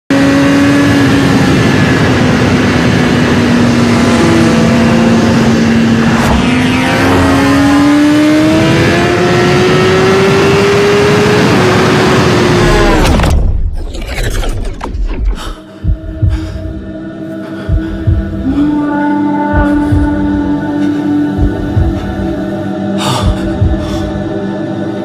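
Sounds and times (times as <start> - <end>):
mechanical engine-like drone: 0.1 - 25.0.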